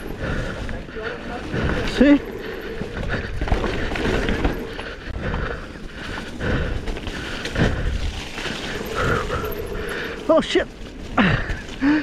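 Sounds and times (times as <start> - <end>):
bike rattling and knocking: 0.0 - 12.0
wind rush on microphone: 0.0 - 12.0.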